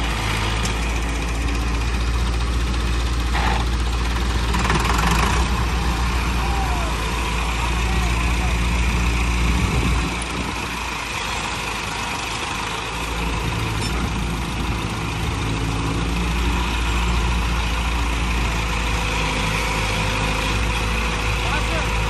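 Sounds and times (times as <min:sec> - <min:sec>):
excavator engine idling: 0:00.0 - 0:22.0
tractor engine idling: 0:00.0 - 0:22.0.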